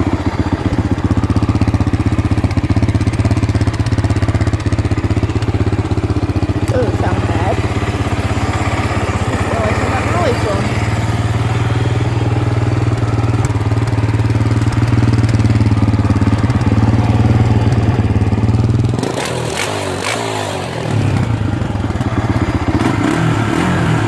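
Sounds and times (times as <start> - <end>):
atv engine idling: 0.0 - 24.0.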